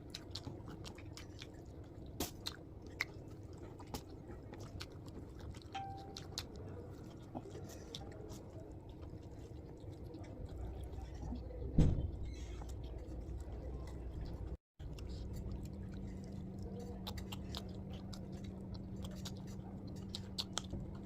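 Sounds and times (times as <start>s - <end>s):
person chewing: 0.0s - 11.7s, 12.5s - 21.0s.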